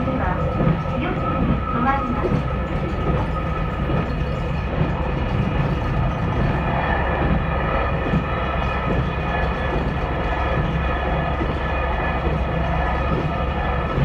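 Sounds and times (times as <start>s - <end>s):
faint even whine: 0.0s - 14.0s
railcar engine and wheels rumbling: 0.0s - 14.0s.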